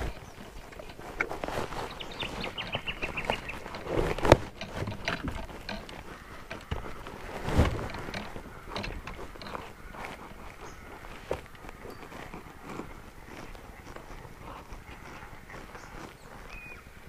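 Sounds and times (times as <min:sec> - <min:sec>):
clicks and knocks of fishing gear: 0:00.0 - 0:16.8.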